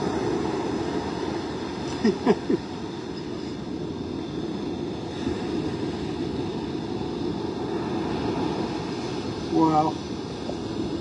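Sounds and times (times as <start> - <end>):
wind rumble: 0.0 - 11.0.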